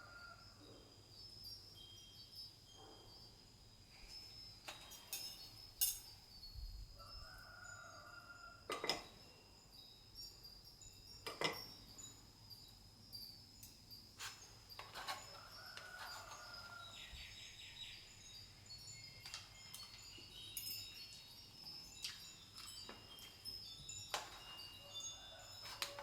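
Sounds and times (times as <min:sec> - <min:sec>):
light metallic tinkling: 0:00.0 - 0:26.0.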